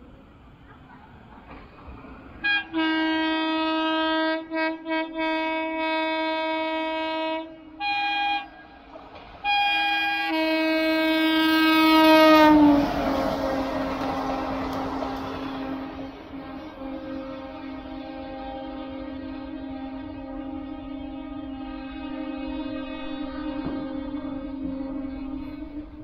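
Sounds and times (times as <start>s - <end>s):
train rushing past: 0.0s - 4.6s, 6.4s - 26.0s
locomotive air horn: 2.4s - 26.0s.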